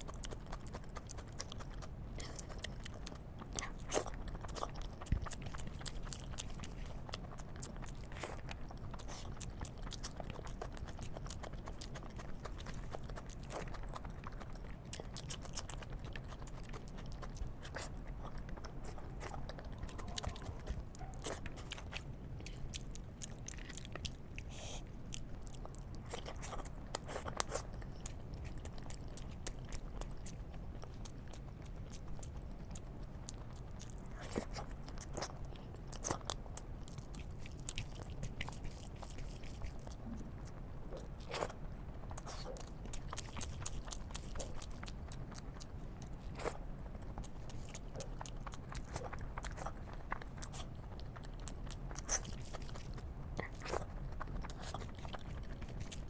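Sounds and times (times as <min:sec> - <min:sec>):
person chewing crunchy food: 0:00.0 - 0:56.0
steady low hum: 0:00.0 - 0:56.0.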